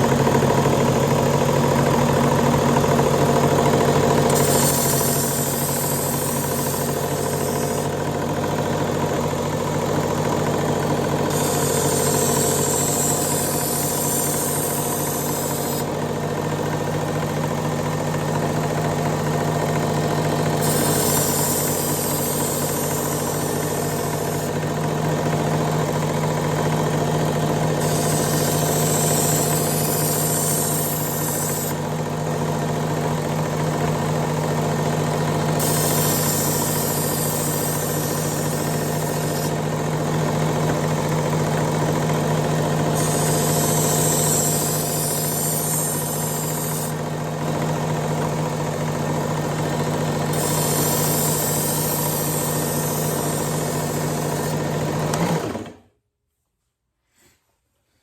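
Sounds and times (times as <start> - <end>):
belt grinder motor hum: 0.0 - 55.8.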